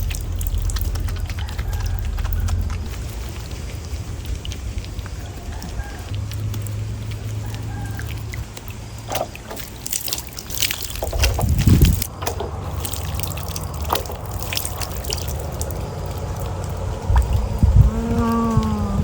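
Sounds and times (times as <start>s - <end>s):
water trickling and dripping: 0.0s - 19.0s.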